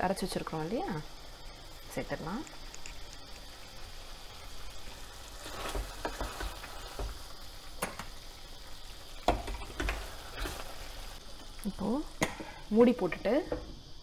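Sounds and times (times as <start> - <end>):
gravy sizzling: 0.0 - 14.0.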